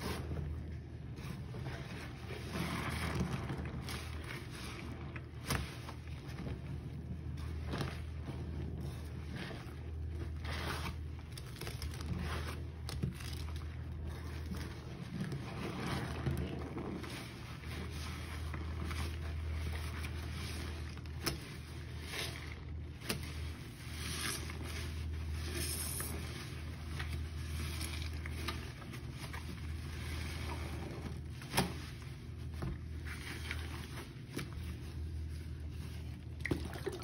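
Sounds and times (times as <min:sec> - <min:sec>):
sponge squelching in soapy water: 0:00.0 - 0:37.0.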